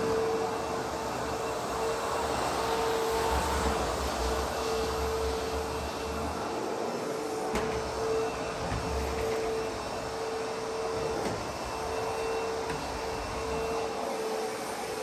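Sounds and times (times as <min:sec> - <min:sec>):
vacuum motor whine: 0:00.0 - 0:15.0.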